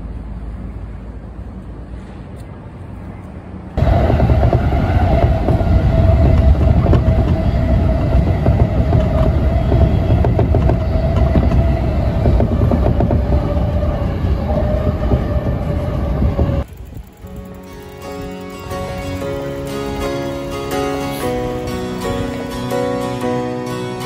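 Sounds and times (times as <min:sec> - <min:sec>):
low outdoor rumble: 0:00.0 - 0:22.5
train wheels rumbling on rails: 0:00.0 - 0:23.4
constant whining tone: 0:00.0 - 0:24.0.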